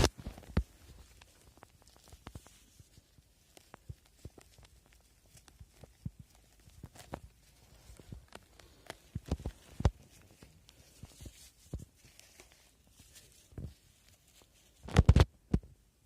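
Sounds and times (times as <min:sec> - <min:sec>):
twigs and leaf litter crackling: 0:00.0 - 0:15.2.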